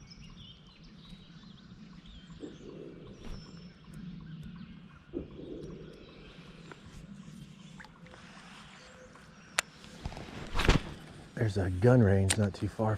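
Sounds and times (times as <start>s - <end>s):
faint bird chirps: 0.0s - 11.8s
outdoor background noise: 0.0s - 12.9s.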